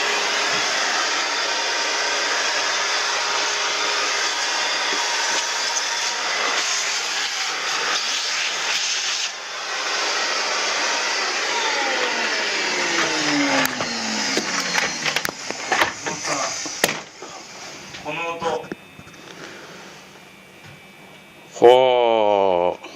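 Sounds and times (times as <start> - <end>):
blower motor rushing air: 0.0 - 21.5.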